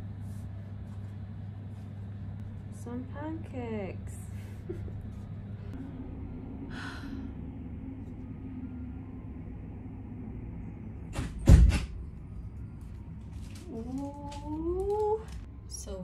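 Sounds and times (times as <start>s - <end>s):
traffic hum through window: 0.0s - 16.0s.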